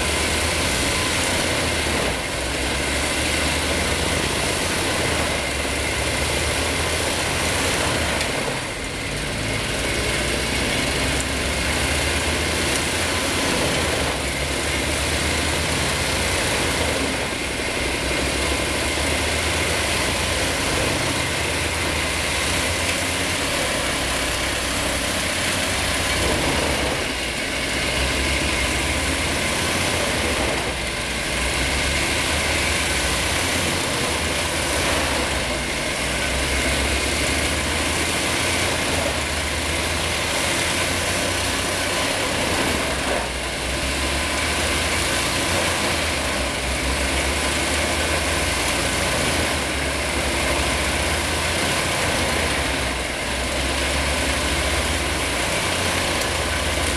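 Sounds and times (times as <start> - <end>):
heavy engine drone: 0.0 - 56.9
wood chipper grinding: 0.0 - 56.9.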